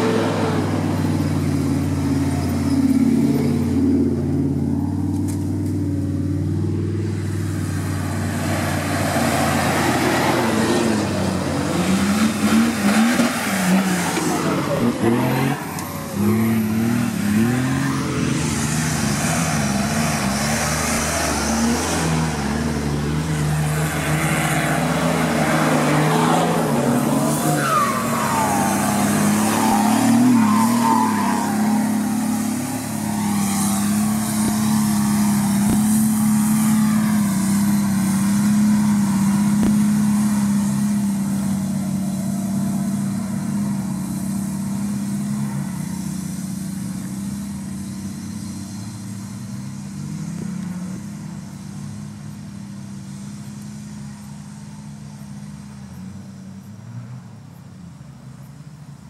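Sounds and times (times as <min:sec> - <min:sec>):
off-road engines labouring: 0:00.0 - 0:59.0.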